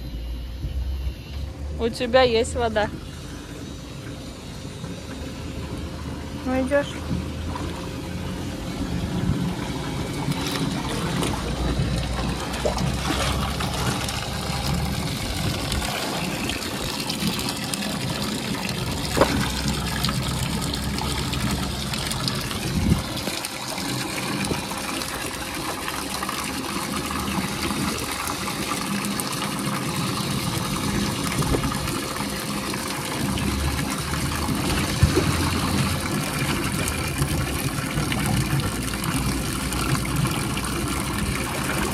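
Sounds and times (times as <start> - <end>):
hose water splashing into tub: 4.9 - 41.9.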